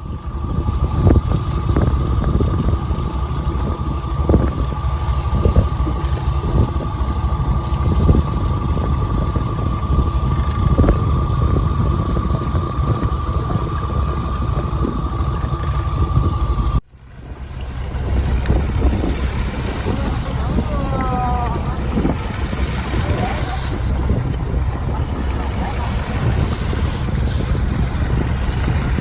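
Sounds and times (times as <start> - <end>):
boat engine running: 0.0 - 29.0
high whine: 0.0 - 29.0.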